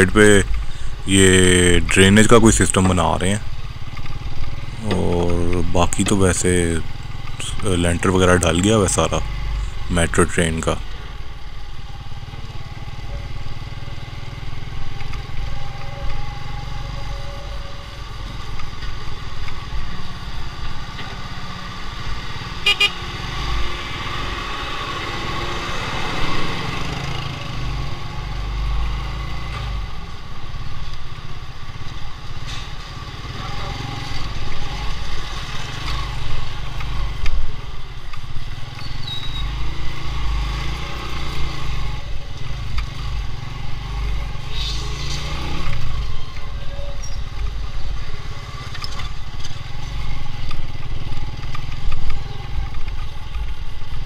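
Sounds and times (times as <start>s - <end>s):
motorcycle engine running: 0.0s - 9.9s, 10.8s - 29.2s, 33.0s - 54.0s.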